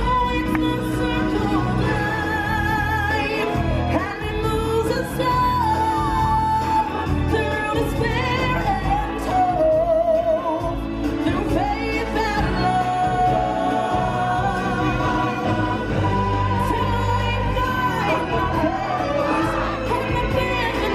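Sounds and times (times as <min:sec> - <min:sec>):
band playing: 0:00.0 - 0:20.9.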